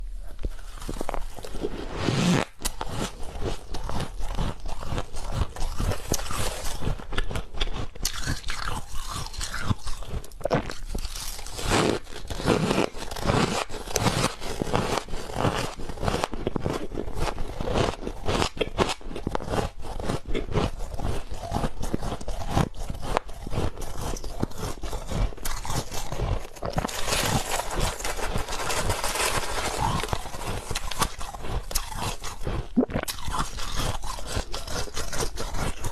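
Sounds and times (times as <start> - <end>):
ice crunching and cracking: 0.4 - 35.9.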